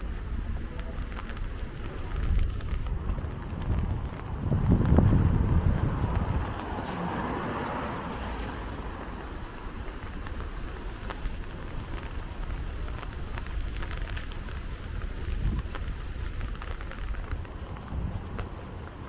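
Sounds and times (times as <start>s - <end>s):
car tyres hissing on wet street: 0.0s - 19.0s
rain drop ticks: 0.0s - 19.0s
steady rain: 0.0s - 19.0s
wind rumble on microphone: 0.0s - 19.0s.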